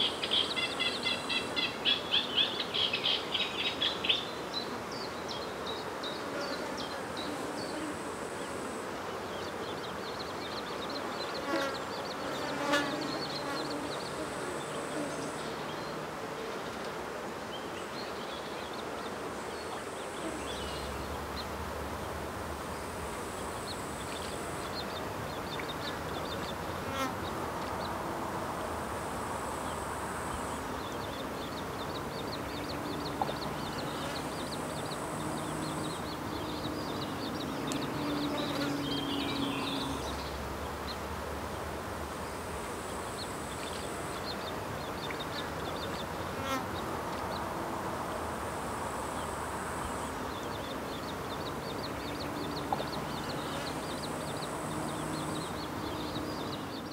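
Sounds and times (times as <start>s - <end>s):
flying insects buzzing: 0.0s - 56.9s.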